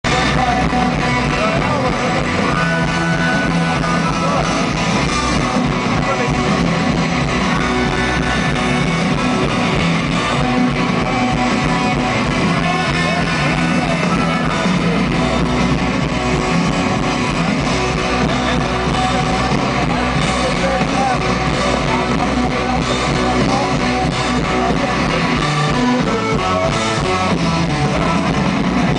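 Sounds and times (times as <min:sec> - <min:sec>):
electric guitar: 0:00.0 - 0:28.9
live rock band playing: 0:00.0 - 0:28.9.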